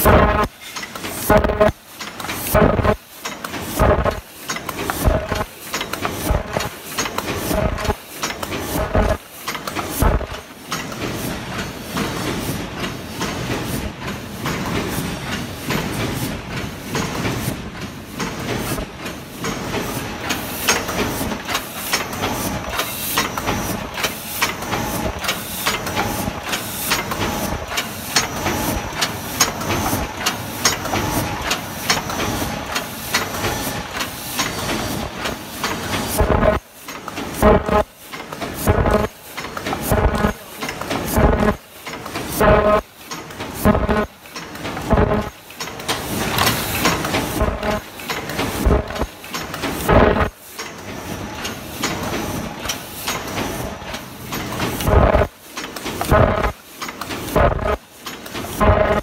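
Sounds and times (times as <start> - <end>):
machine clattering: 0.0 - 59.0.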